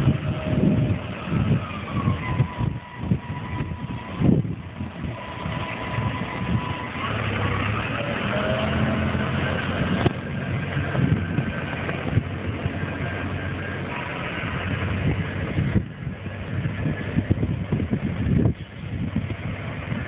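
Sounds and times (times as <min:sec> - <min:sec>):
thin steady whine: 0:00.0 - 0:20.0
tractor diesel engine running: 0:00.0 - 0:20.0.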